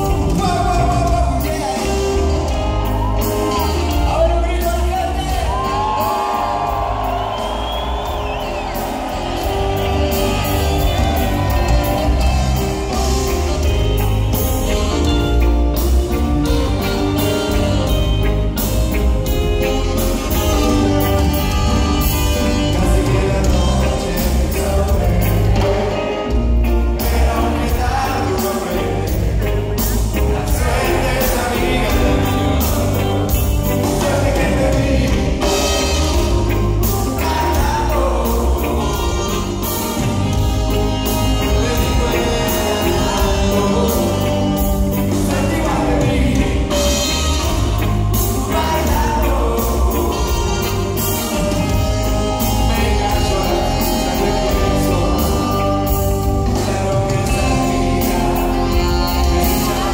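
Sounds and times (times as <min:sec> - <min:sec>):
live reggae band with singer: 0:00.0 - 0:59.9.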